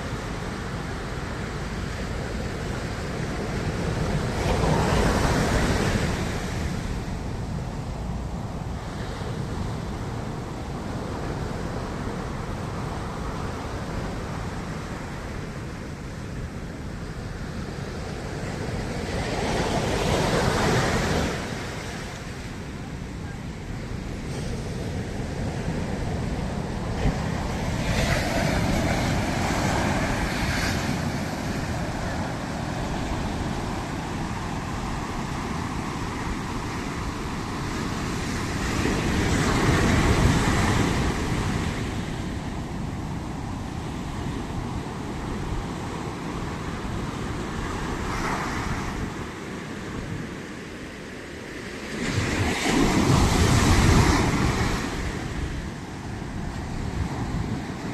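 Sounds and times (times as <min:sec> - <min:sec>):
sea waves crashing on shore: 0:00.0 - 0:57.9.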